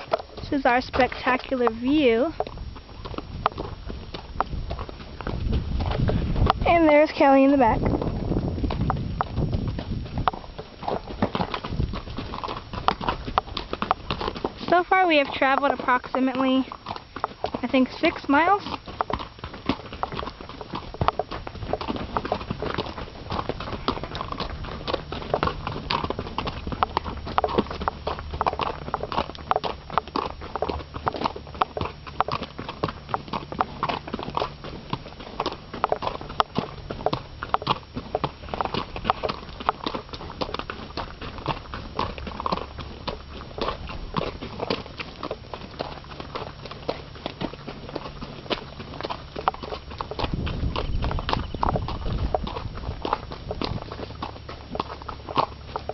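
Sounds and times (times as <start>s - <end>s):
horse hooves clip-clopping: 0.0s - 55.9s.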